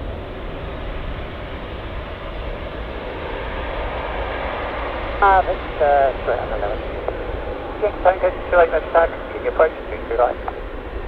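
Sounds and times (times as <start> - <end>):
jet engine rumble and hiss: 0.0 - 11.0.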